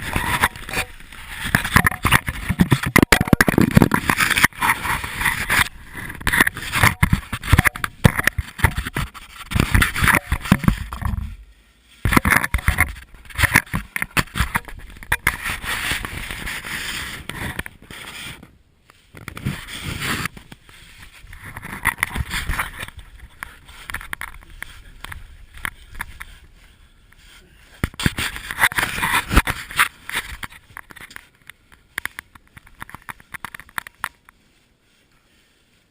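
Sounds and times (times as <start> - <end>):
scraping and shuffling over rock: 0.0 - 35.9.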